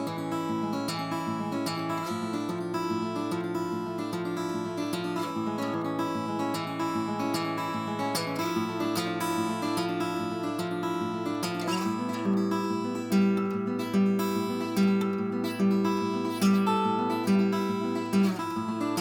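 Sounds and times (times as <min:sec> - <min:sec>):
acoustic guitar picked chords: 0:00.0 - 0:19.0.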